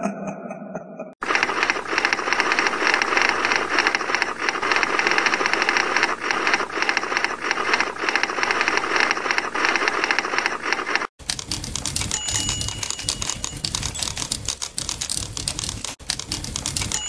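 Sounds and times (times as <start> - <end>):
mechanical rattle of rapid clicks: 1.2 - 17.0.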